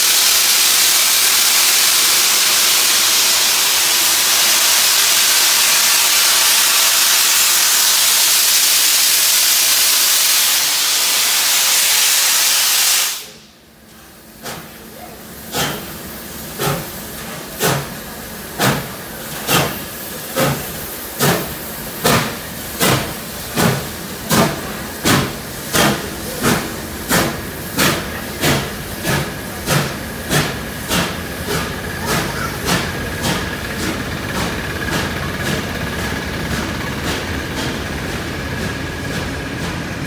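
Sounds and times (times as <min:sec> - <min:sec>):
steam locomotive chuffing: 0:00.0 - 0:40.0.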